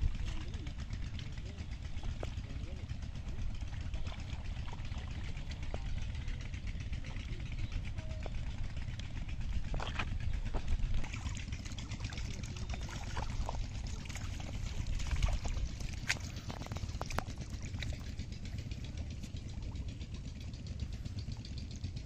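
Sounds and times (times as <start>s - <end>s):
splashing in muddy water: 0.0s - 22.0s
steady low rumble: 0.0s - 22.0s.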